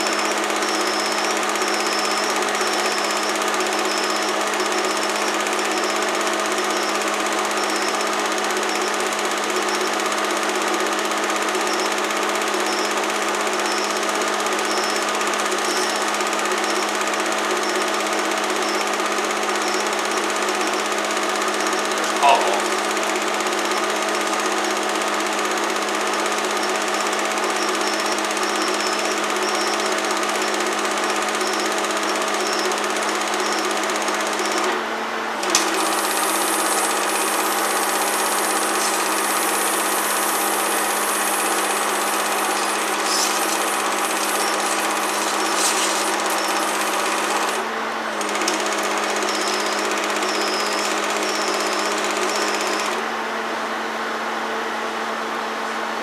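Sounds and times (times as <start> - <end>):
film projector clatter and hum: 0.0 - 56.0.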